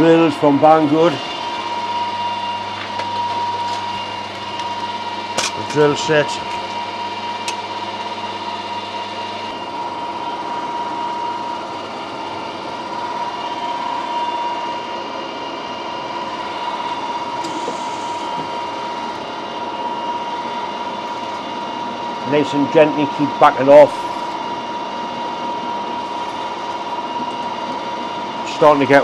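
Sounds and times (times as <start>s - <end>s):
drill boring into steel: 0.0s - 29.0s
metal lathe whining: 0.0s - 29.0s.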